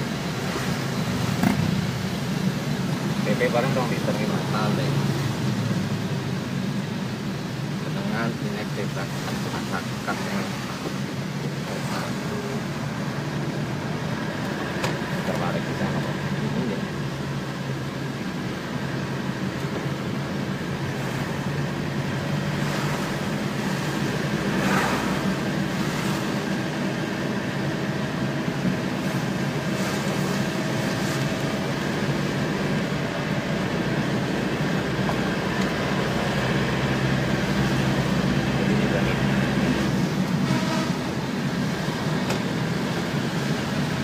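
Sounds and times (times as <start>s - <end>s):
tyre noise on wet road: 0.0s - 44.0s
vehicle engine drone: 0.0s - 44.0s.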